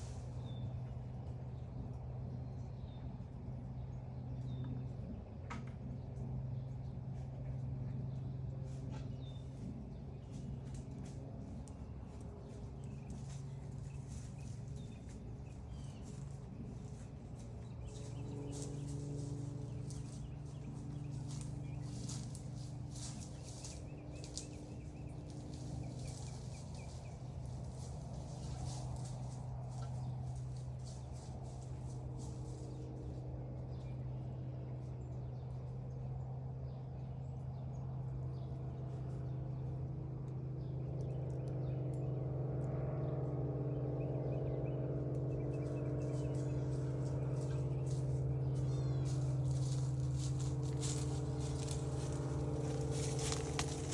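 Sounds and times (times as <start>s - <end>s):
small birds chirping: 0.0s - 42.2s, 43.0s - 53.9s
steady low hum: 0.0s - 53.9s.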